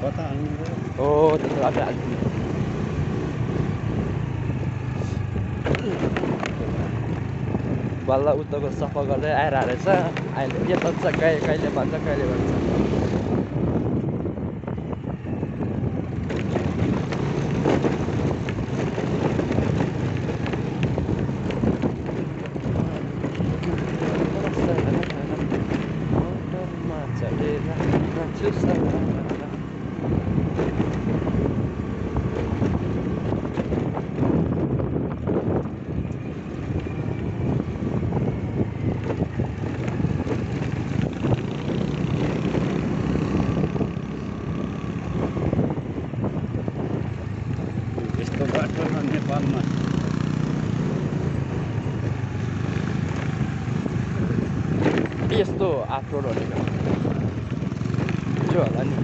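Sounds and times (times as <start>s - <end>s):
motorcycle engine running: 0.0s - 59.0s
road rumble: 0.0s - 59.0s
wind buffeting microphone: 0.0s - 59.0s.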